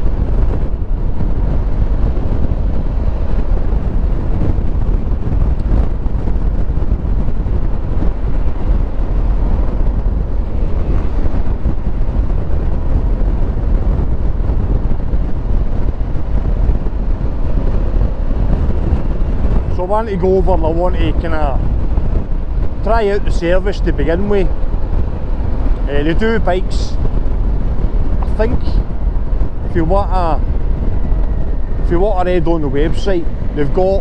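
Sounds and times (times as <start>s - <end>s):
road and engine rumble: 0.0s - 34.0s
wind buffeting: 0.0s - 34.0s.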